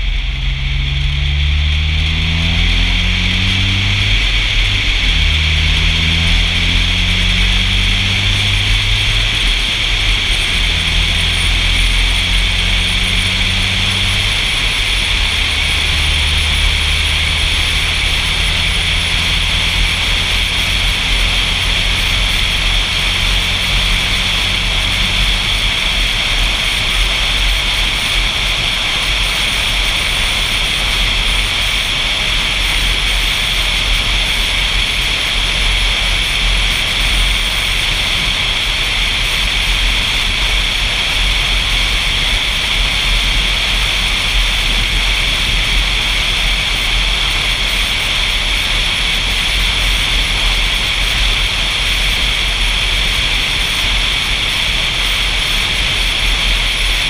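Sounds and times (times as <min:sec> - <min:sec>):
car road noise: 0:00.0 - 0:57.0
low hum: 0:00.0 - 0:57.0.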